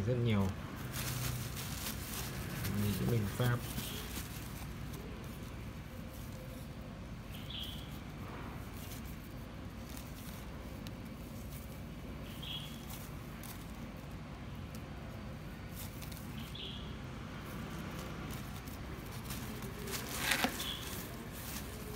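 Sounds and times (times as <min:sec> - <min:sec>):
plastic bag rustling and crinkling: 0:00.1 - 0:16.8, 0:17.4 - 0:21.9.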